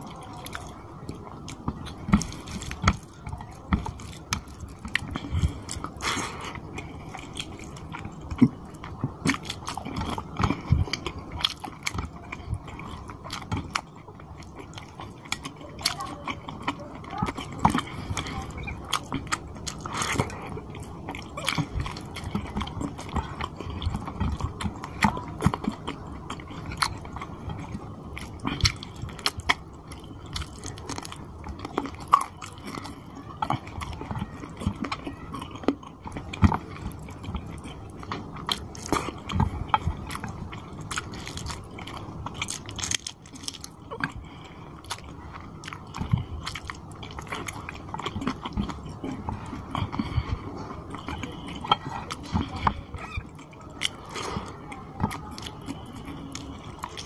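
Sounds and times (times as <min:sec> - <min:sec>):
man chewing with mouth smacks: 0:00.0 - 0:57.0.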